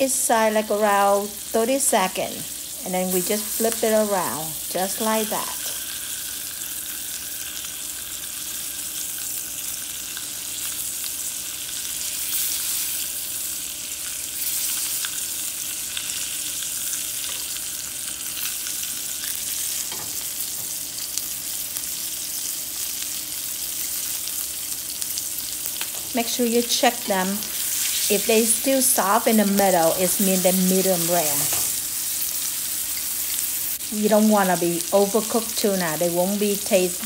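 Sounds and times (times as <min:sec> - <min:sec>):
fish steaks sizzling in butter: 0:00.0 - 0:37.0.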